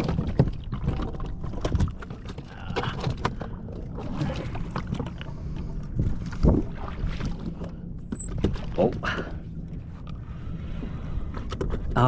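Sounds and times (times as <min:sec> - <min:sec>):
steady low rumble: 0:00.0 - 0:12.0
water sounds: 0:00.0 - 0:12.0.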